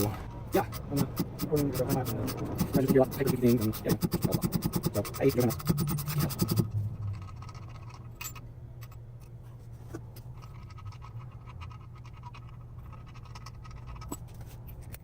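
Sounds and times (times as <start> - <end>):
hand tools clicking and scratching: 0.0 - 15.0
steady low hum: 0.0 - 15.0.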